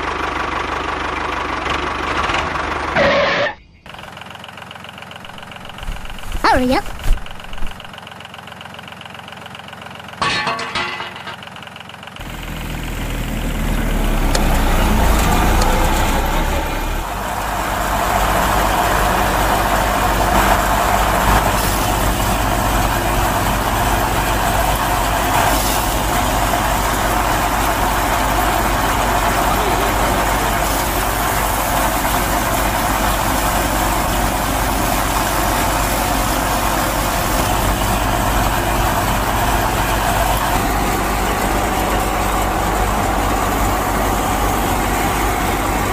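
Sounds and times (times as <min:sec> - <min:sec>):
engine starting and running: 0:00.0 - 0:45.9.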